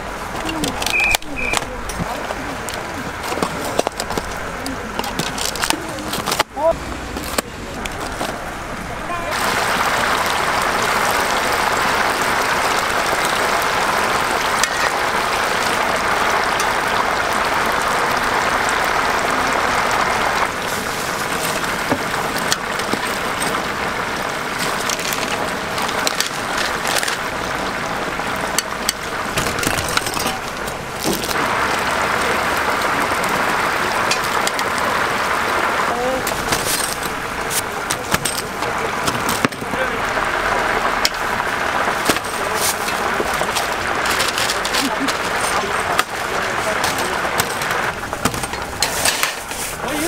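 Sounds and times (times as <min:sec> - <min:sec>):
oil sizzling in deep fryer: 0:09.2 - 0:50.0.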